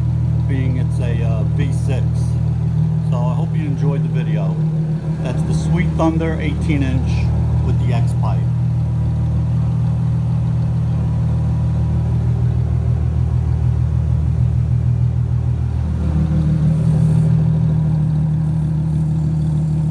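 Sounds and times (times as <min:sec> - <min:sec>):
car engine idling deep exhaust: 0:00.0 - 0:19.9.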